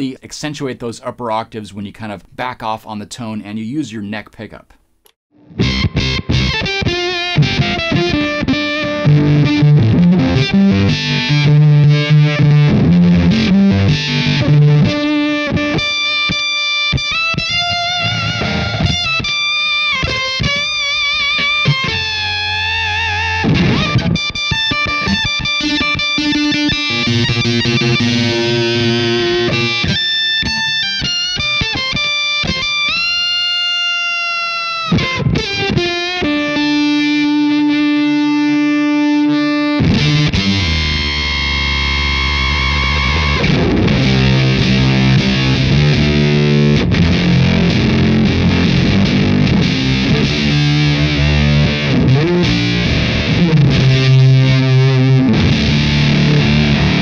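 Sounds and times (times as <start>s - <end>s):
fuzz electric guitar: 5.4s - 57.0s.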